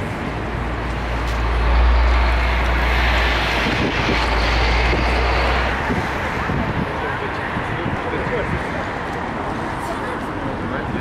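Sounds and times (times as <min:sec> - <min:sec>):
vehicle passing with rushing sound: 0:00.0 - 0:09.8
deep steady traffic rumble: 0:00.0 - 0:11.0.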